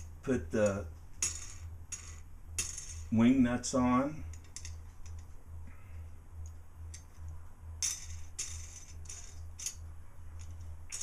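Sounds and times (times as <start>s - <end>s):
low pulsing hum: 0.0s - 11.0s.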